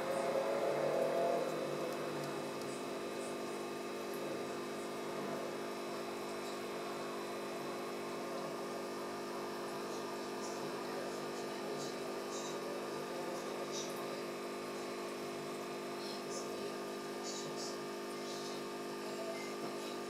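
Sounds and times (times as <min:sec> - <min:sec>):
aquarium pump hum: 0:00.0 - 0:20.0.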